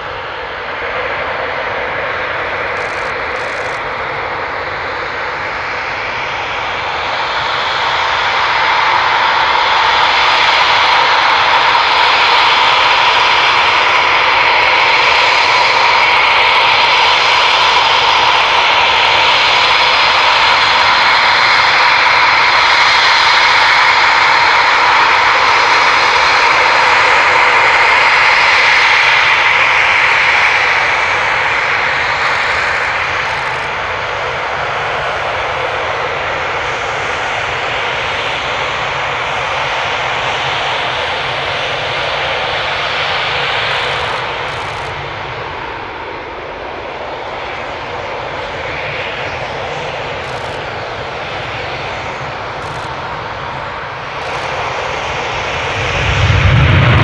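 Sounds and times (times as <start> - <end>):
jet engine whine: 0.0 - 57.0.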